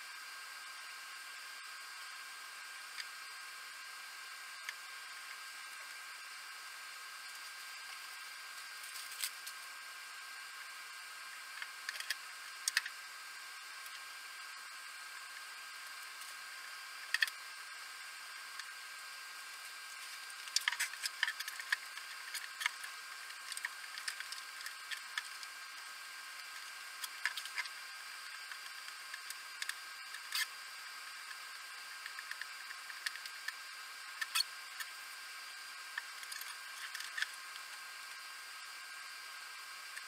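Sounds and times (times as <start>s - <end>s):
steady hiss: 0.0s - 40.0s.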